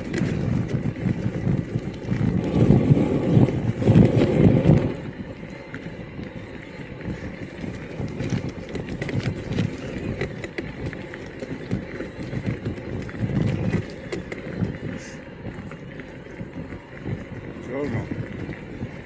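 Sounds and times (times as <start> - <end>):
bike clicks and rattles: 0.0 - 19.0
bike tyre rumble: 0.0 - 19.0.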